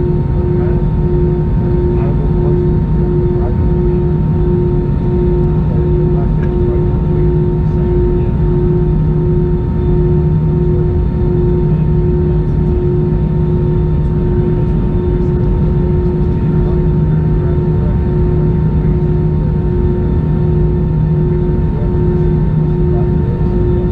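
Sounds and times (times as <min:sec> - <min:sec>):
humming tones: 0:00.0 - 0:23.9
jet engines droning in cabin: 0:00.0 - 0:23.9.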